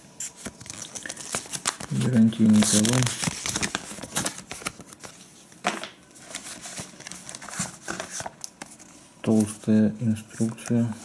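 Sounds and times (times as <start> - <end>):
paper rustling and flicking: 0.2 - 9.7.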